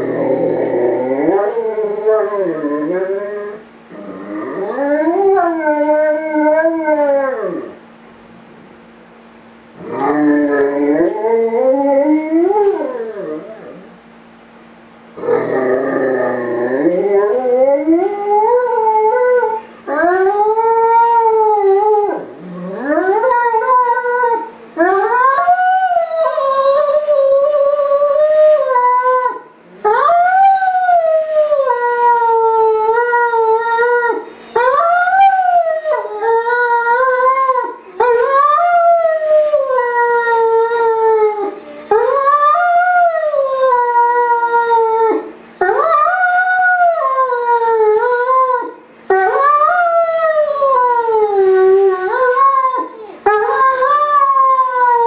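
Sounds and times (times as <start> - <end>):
dog howling: 0.0 - 7.8, 9.8 - 14.0, 15.2 - 55.0.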